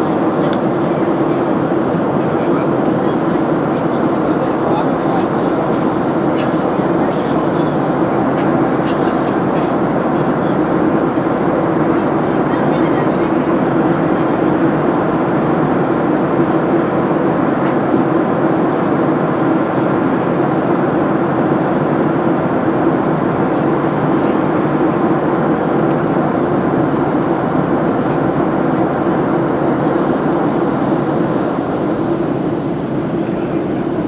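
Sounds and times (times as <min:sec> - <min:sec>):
jet engine and airflow rush: 0:00.0 - 0:34.0.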